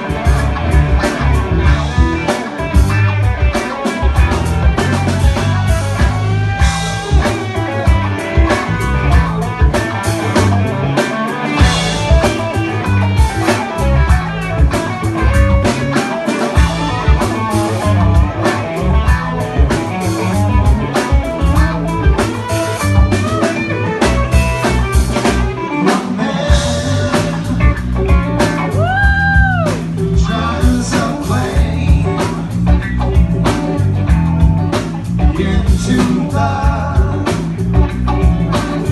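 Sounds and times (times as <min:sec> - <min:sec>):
band playing a groove: 0:00.0 - 0:38.9.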